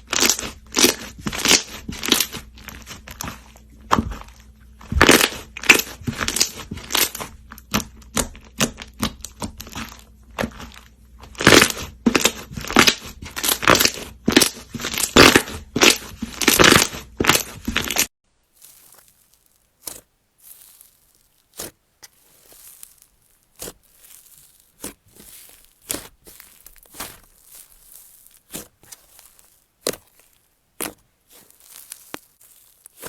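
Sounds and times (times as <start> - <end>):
crunchy slime being squeezed: 0.0 - 33.0.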